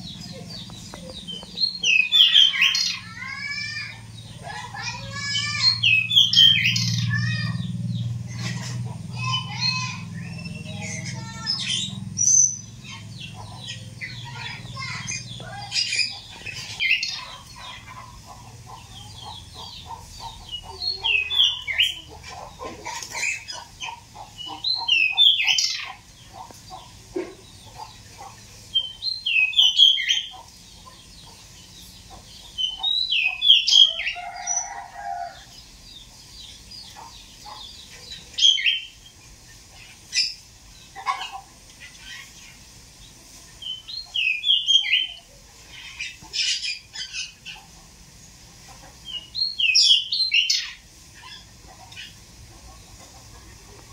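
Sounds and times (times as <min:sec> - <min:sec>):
bird singing bright phrases: 0:00.0 - 0:22.2, 0:23.0 - 0:40.9, 0:41.8 - 0:47.6, 0:49.0 - 0:52.2.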